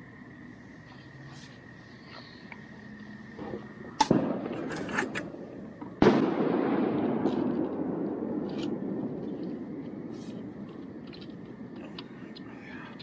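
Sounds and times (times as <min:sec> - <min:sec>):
crackles: 0:00.7 - 0:13.0.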